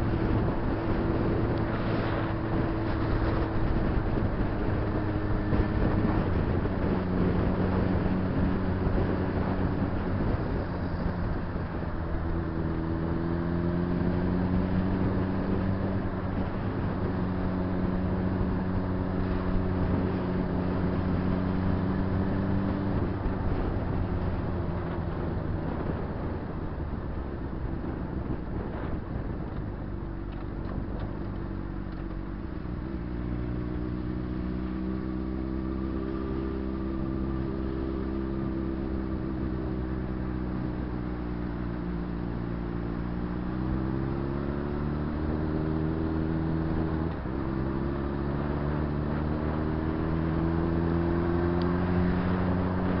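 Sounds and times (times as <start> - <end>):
motorcycle engine riding: 0.0 - 53.0.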